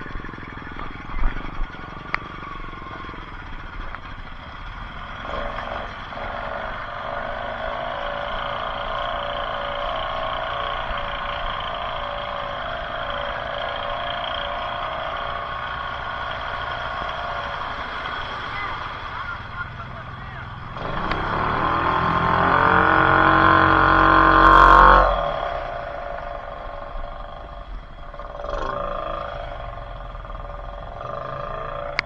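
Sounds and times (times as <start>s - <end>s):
off-road vehicle engine running: 0.0s - 32.0s.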